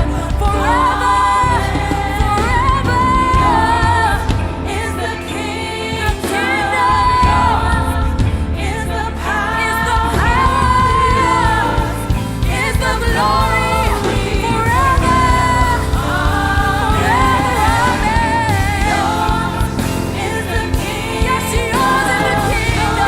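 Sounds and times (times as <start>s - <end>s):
band with steady bass: 0.0s - 23.0s.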